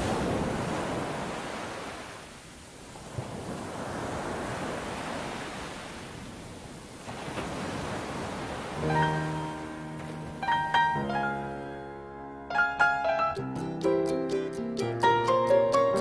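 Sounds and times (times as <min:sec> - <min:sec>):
ocean waves breaking: 0:00.0 - 0:13.1.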